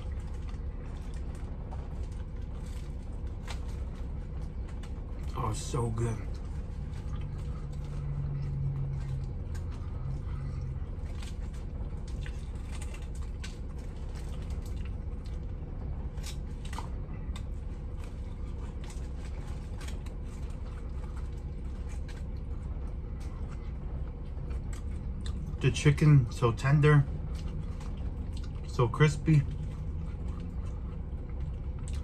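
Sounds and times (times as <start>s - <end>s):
low hum: 0.0s - 32.0s
man chewing: 0.0s - 32.0s
vehicle cabin rumble: 0.0s - 32.0s.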